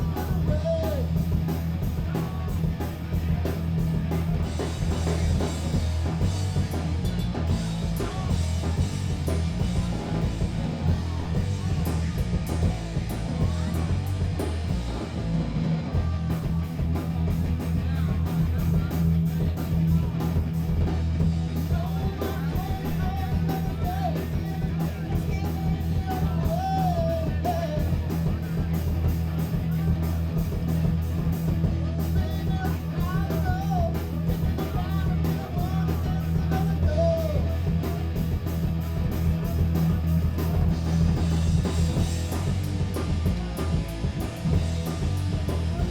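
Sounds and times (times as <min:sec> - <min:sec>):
punk rock band playing: 0:00.0 - 0:45.9.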